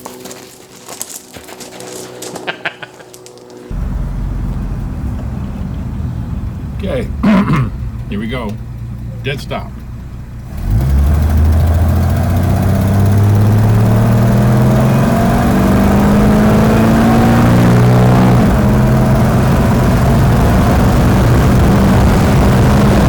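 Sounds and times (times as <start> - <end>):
car engine accelerating hard: 3.7 - 23.0.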